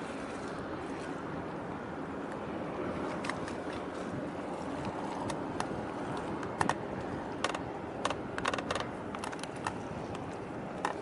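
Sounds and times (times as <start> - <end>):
low harbour rumble: 0.0 - 11.0.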